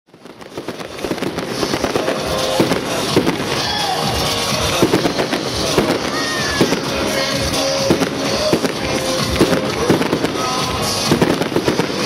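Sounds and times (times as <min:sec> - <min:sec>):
fireworks bangs and crackles: 0:00.1 - 0:12.0
music: 0:00.2 - 0:12.0.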